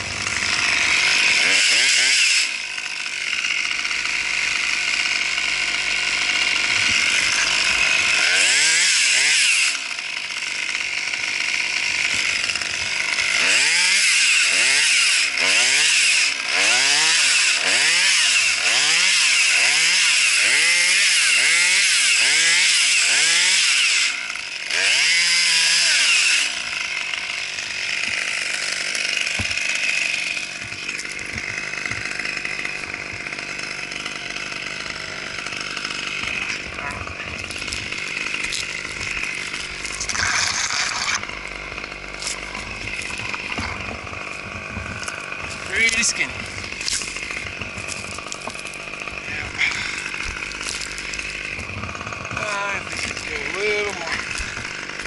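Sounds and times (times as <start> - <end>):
chainsaw idling: 0.0 - 55.0
chainsaw revving: 0.0 - 55.0.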